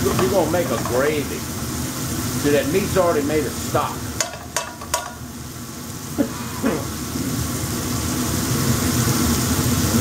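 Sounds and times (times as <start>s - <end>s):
onions sizzling in a skillet: 0.0s - 10.0s.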